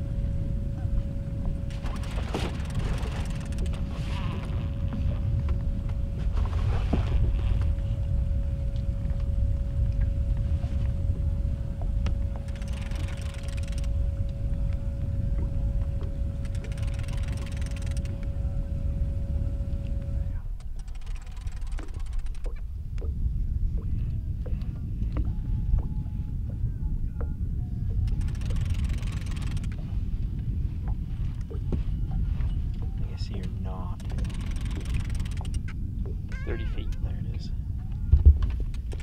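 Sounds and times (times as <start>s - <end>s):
outboard motor running: 0.0s - 26.6s, 27.8s - 39.0s.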